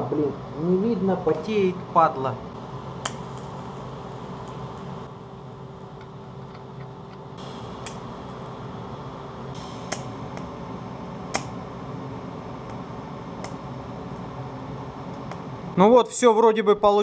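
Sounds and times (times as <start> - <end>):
welding arc humming: 0.0 - 15.8.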